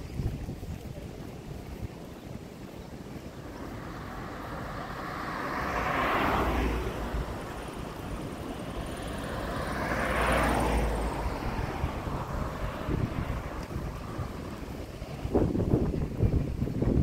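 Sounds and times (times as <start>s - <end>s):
vehicles passing on a road: 0.0s - 17.0s.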